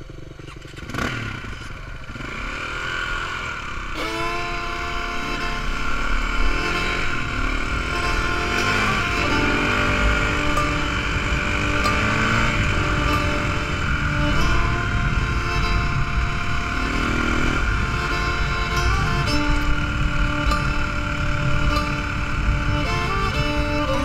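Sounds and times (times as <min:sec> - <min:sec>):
low wind rumble: 0:00.0 - 0:24.0
motorcycle engine accelerating: 0:00.0 - 0:24.0.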